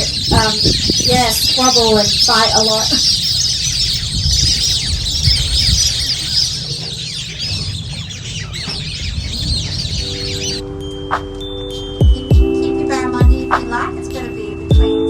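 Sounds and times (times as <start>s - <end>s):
flock of birds chattering: 0.0s - 15.0s.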